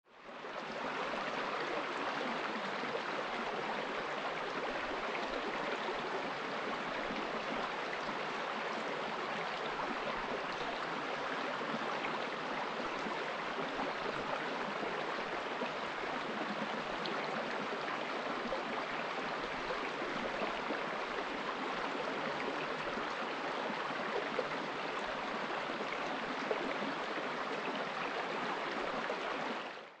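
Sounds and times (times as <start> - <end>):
stream flowing over rocks: 0.2 - 30.0.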